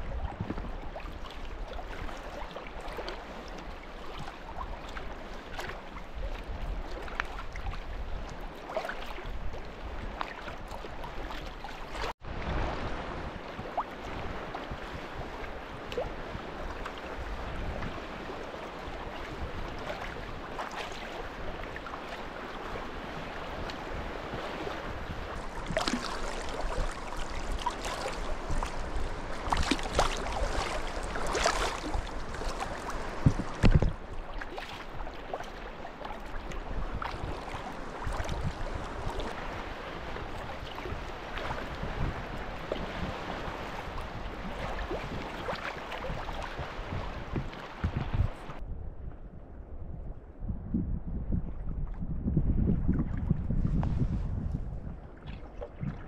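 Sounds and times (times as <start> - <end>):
water lapping and splashing: 0.0 - 48.6, 51.6 - 56.0
wind: 0.0 - 56.0.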